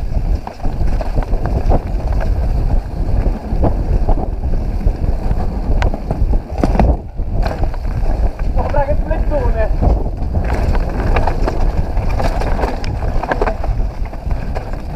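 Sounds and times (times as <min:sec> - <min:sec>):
bike rattling: 0:00.0 - 0:14.9
wind buffeting microphone: 0:00.0 - 0:14.9
tyres rolling over dry leaves: 0:00.2 - 0:14.9.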